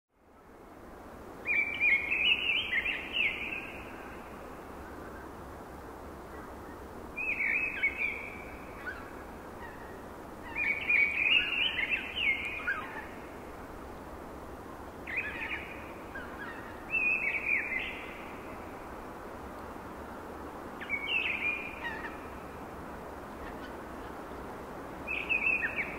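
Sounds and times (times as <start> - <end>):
wind rushing in trees: 0.1 - 25.9
songbird singing: 1.4 - 5.4, 6.2 - 13.5, 14.7 - 25.9.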